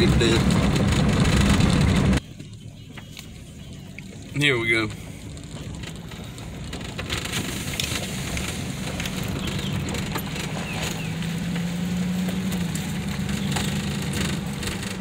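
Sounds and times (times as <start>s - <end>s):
engine hum: 0.0s - 15.0s
grit crackling under tyres: 0.0s - 15.0s
tyre and road noise: 0.0s - 15.0s.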